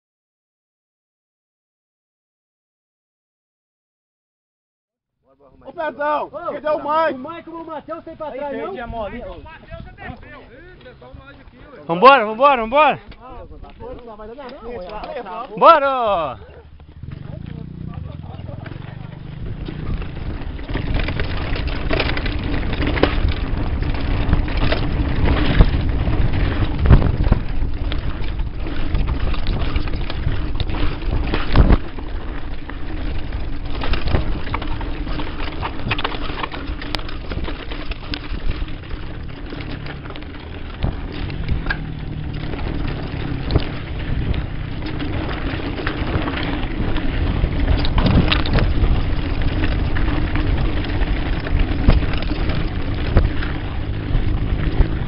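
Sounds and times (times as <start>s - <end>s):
bike rattling and knocking: 5.7s - 55.0s
tyres rumbling over stones: 6.8s - 55.0s
wind buffeting microphone: 8.1s - 55.0s.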